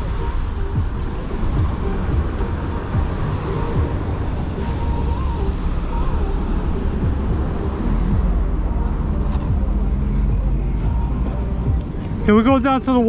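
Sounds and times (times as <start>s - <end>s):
e-bike ride rumble: 0.0s - 13.0s.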